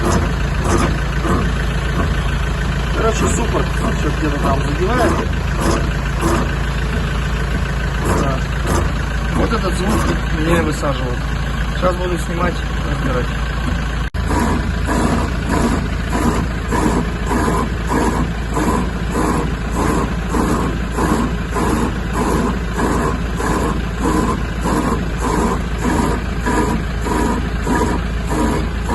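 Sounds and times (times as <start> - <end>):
low engine hum: 0.0 - 28.9
wheel hub grinding groan: 0.0 - 28.9.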